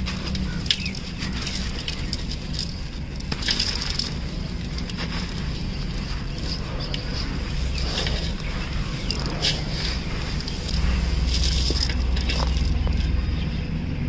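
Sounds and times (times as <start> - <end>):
gritty crunching of crumbling cement: 0.0 - 13.2.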